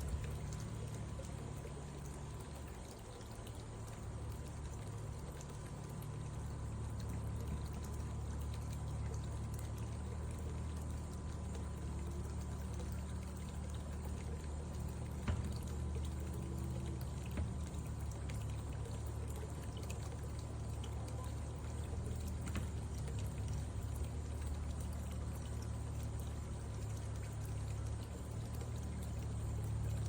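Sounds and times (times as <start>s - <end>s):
pool cleaner motor hum: 0.0s - 30.0s
pump churning water: 0.0s - 30.0s.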